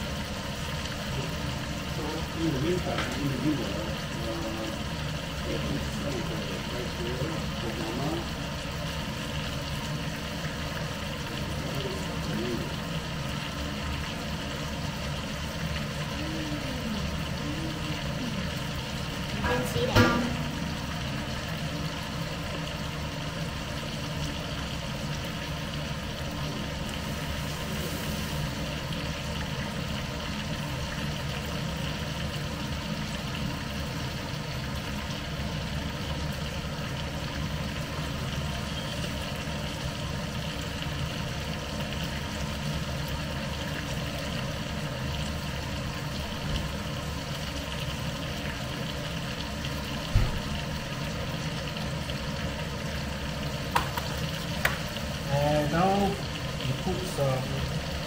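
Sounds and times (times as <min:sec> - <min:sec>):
steak sizzling in a pan: 0:00.0 - 0:58.0.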